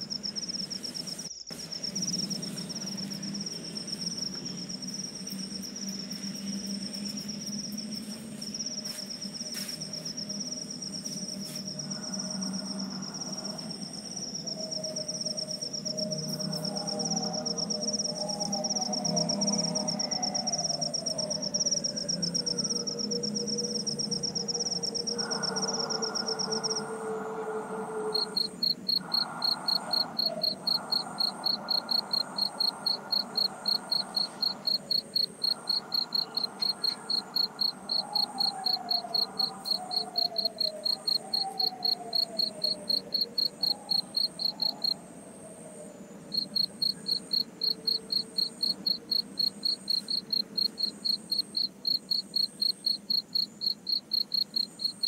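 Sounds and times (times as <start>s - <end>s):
high-pitched cricket trill: 0.0s - 55.0s
lower cricket chirping: 0.0s - 55.0s.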